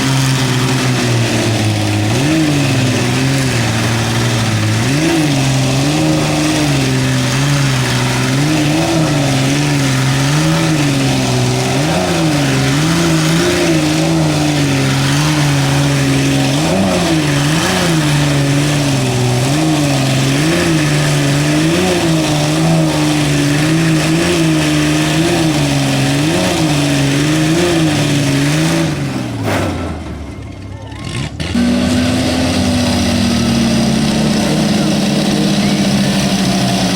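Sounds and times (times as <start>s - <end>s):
truck engines revving under load: 0.0s - 36.9s.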